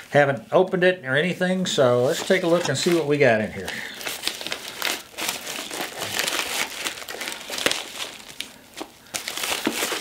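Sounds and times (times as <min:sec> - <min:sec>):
plastic bag crinkling: 0:01.9 - 0:10.0.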